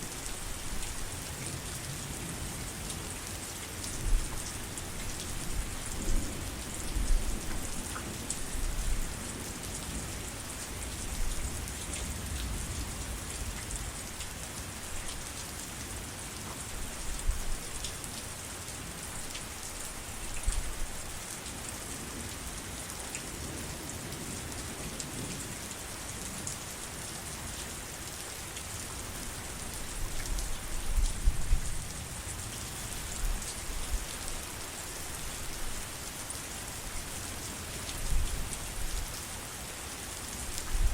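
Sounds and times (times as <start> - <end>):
heavy rain pattering: 0.1 - 40.9.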